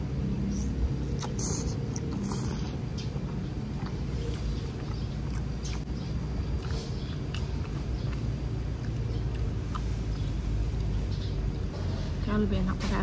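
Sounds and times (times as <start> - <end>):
low background rumble: 0.0 - 13.0
wet chewing mouth clicks: 0.7 - 11.7.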